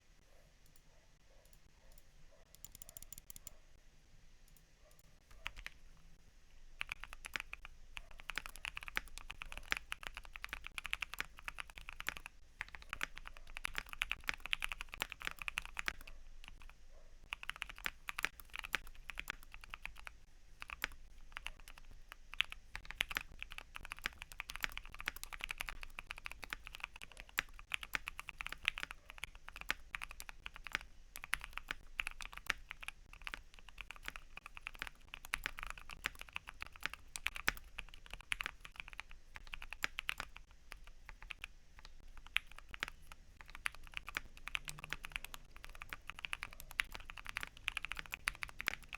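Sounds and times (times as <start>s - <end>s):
typing on mechanical keyboard: 2.5s - 3.5s, 5.4s - 5.8s, 6.8s - 48.9s.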